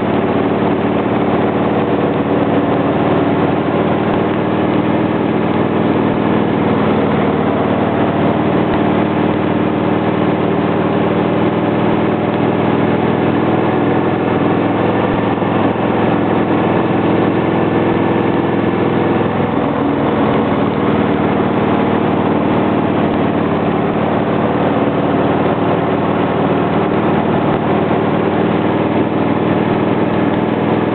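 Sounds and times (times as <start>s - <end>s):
motorcycle engine running: 0.0s - 30.9s
wind and road noise: 0.0s - 30.9s.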